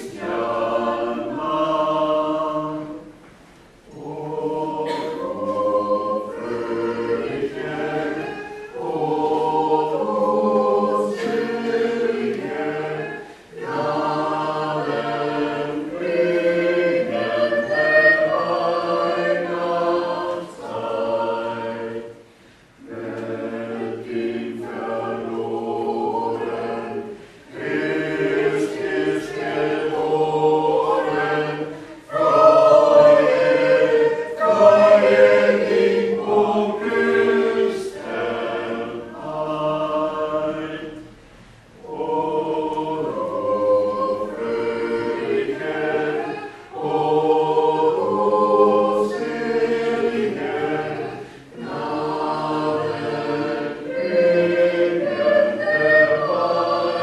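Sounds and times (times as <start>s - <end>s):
mixed choir singing a carol: 0.0s - 57.0s.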